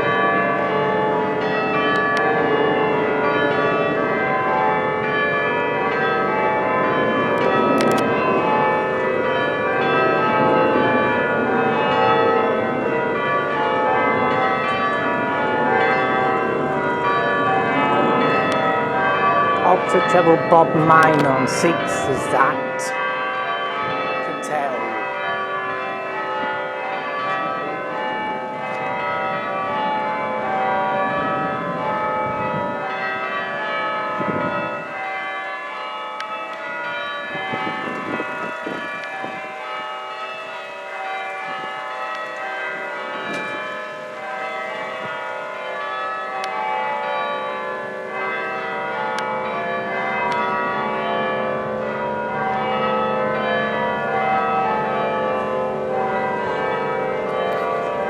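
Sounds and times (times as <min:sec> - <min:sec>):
church bells change ringing: 0:00.0 - 0:58.0.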